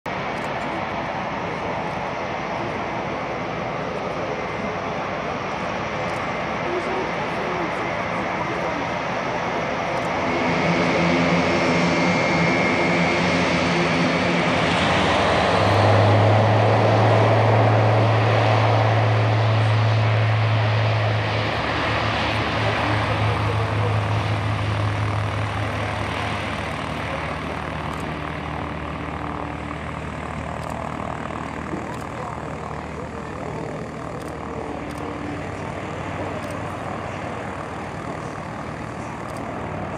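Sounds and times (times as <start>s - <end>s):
turboprop engines droning: 0.1s - 39.9s.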